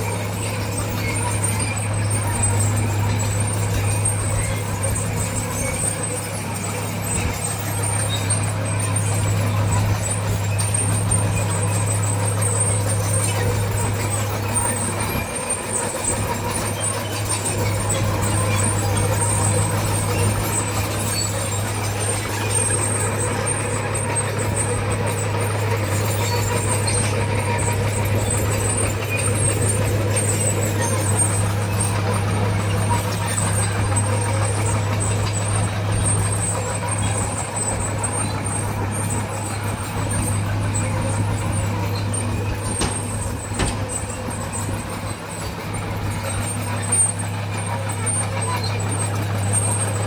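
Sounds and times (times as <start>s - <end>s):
heavy diesel engine droning: 0.0s - 50.0s.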